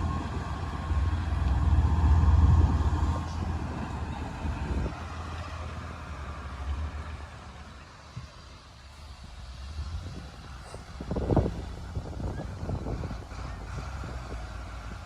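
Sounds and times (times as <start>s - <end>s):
bulldozer diesel engine rumbling: 0.0s - 15.0s.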